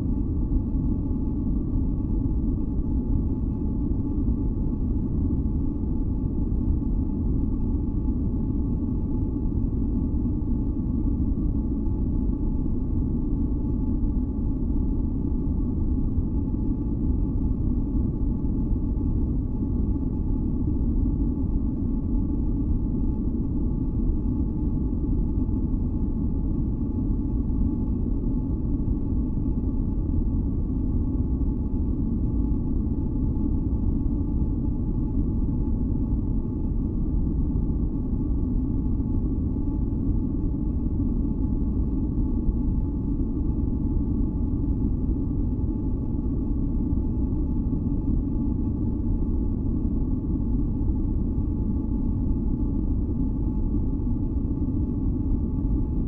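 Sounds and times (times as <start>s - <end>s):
deep rumbling white noise: 0.0s - 56.0s.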